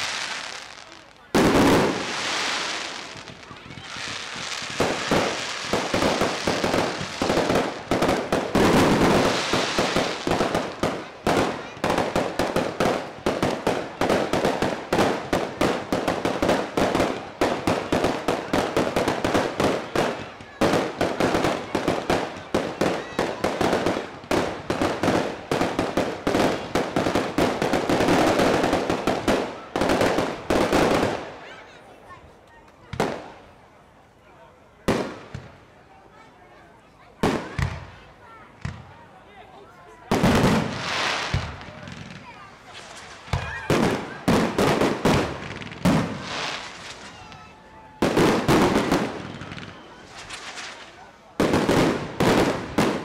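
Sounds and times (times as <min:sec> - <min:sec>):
fireworks bangs and crackles: 0:00.0 - 0:33.7, 0:34.7 - 0:53.0.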